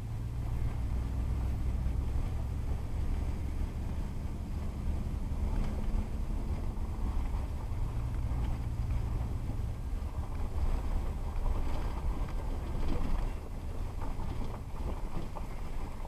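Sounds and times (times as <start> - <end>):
low engine hum: 0.0 - 16.0
car rolling over gravel: 0.4 - 16.0.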